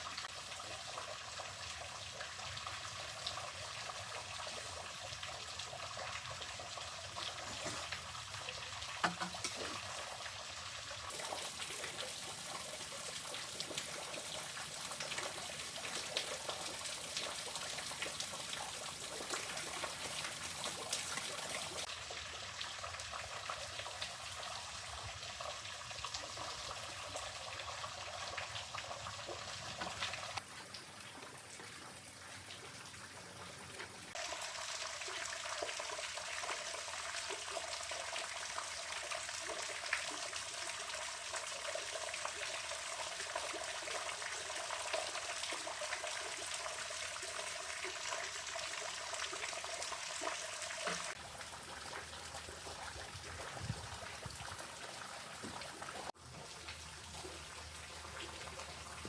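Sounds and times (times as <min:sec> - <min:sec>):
water trickling and flowing: 0:00.0 - 0:59.0.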